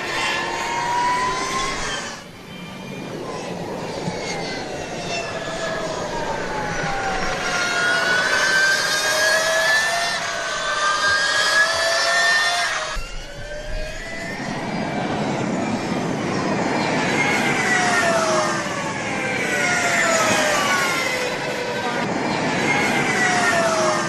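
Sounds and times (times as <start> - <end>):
electric motorbike motor whining: 0.0 - 24.0.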